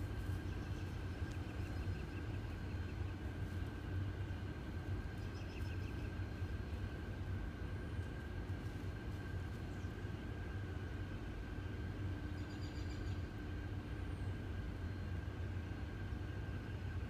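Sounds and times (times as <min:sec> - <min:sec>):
low outdoor rumble: 0:00.0 - 0:17.0
thin steady whine: 0:00.0 - 0:17.0.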